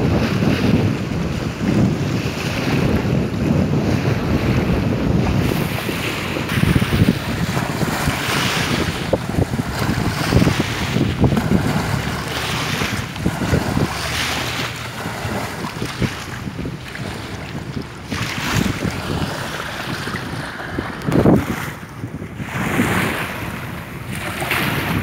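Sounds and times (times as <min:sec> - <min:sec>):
small waves splashing on bank: 0:00.0 - 0:25.0
wind buffeting microphone: 0:00.0 - 0:25.0.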